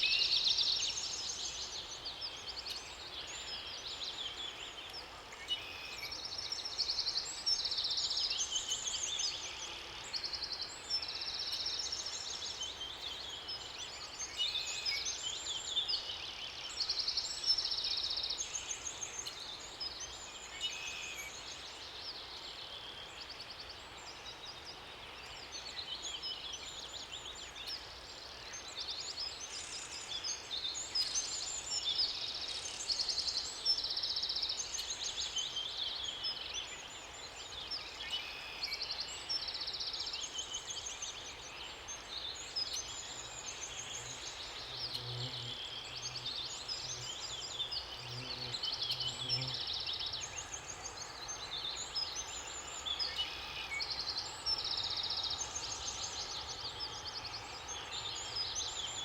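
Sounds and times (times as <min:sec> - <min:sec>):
faint steady hiss: 0:00.0 - 0:59.0
songbirds singing: 0:00.0 - 0:59.0.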